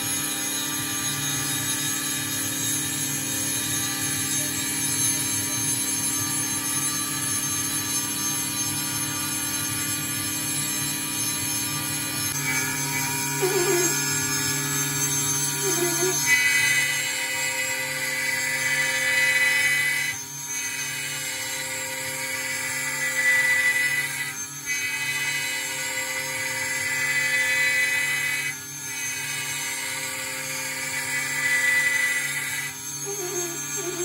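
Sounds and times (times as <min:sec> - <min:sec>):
milling spindle whine: 0:00.0 - 0:34.0.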